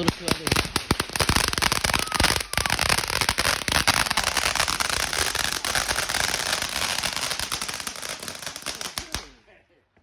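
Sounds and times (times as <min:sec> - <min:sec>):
firework pops and crackles: 0:00.0 - 0:09.4.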